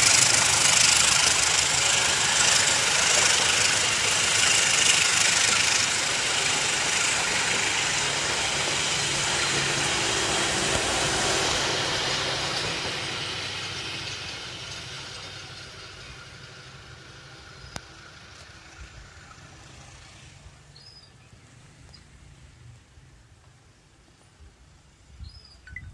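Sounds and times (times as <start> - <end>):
train wheels on rails: 0.0 - 25.9.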